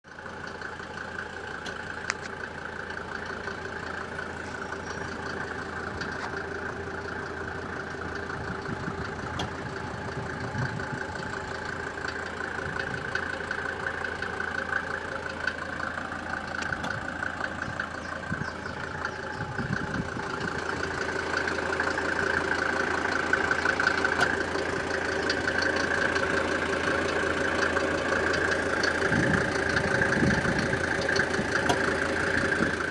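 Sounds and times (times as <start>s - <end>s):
car engine idling: 0.0s - 32.9s
rapid engine knocking: 0.0s - 32.9s.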